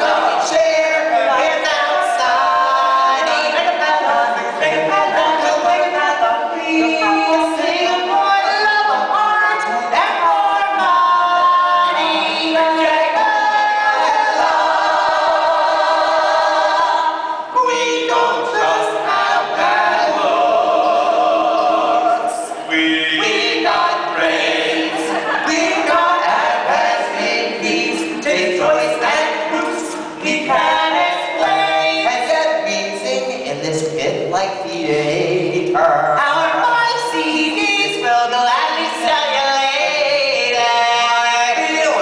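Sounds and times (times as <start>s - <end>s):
a cappella group singing in harmony: 0.0s - 42.0s.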